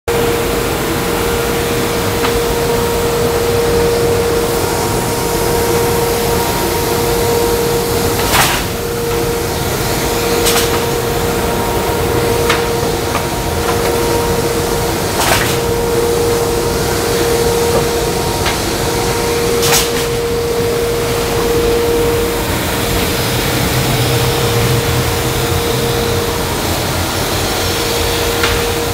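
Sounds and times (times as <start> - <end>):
belt sander humming: 0.1 - 28.9.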